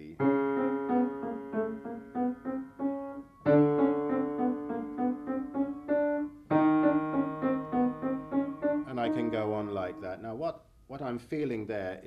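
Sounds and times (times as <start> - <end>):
piano octave exercise: 0.0 - 10.4.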